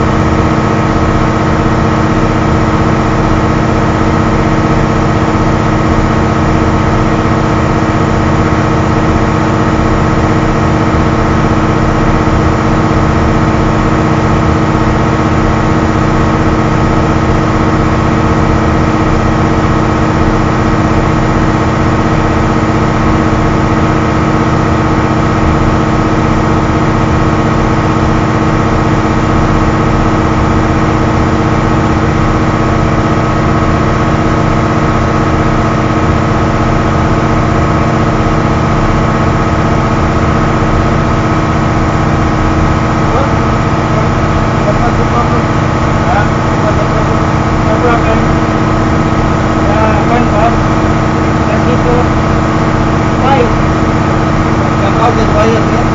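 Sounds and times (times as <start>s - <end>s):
excavator diesel engines running: 0.0s - 55.9s.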